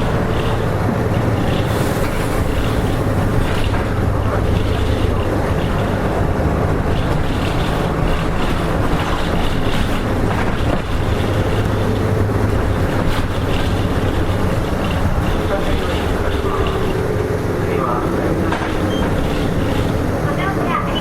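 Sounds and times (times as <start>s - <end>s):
bus diesel engine hum: 0.0s - 21.0s
road and wind noise: 0.0s - 21.0s.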